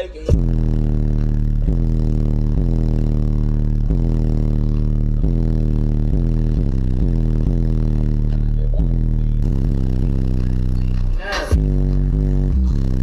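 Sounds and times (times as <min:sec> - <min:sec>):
deep subwoofer bass tone: 0:00.3 - 0:13.0.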